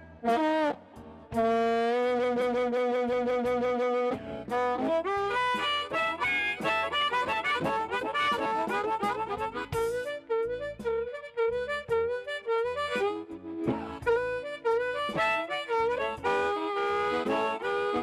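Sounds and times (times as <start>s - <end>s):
blues harmonica: 0.0s - 18.0s.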